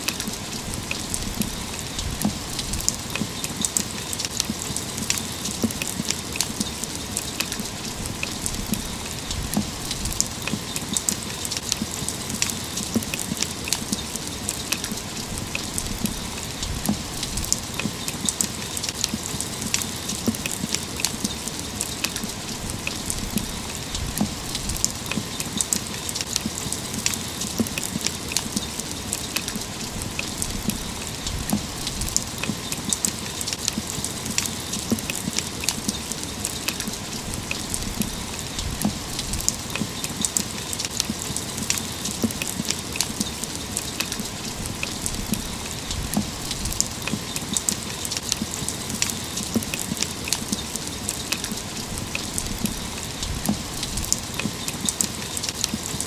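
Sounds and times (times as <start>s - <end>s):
rain hissing: 0.0s - 56.0s
raindrops ticking close by: 0.0s - 56.0s.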